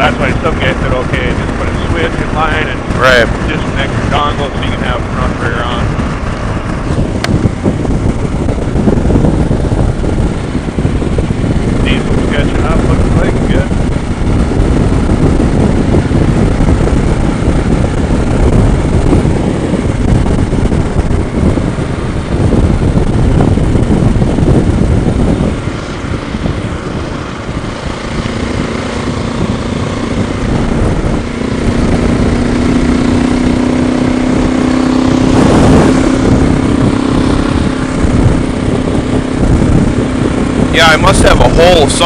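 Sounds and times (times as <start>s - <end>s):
motorcycle engine hum: 0.0s - 42.0s
wind buffeting on microphone: 0.0s - 42.0s.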